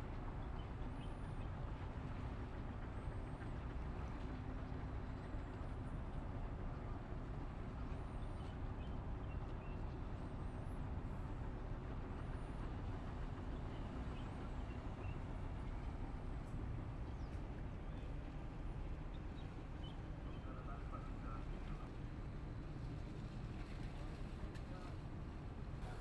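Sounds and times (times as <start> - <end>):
boat engine rumble: 0.0 - 26.0
wind: 0.0 - 26.0.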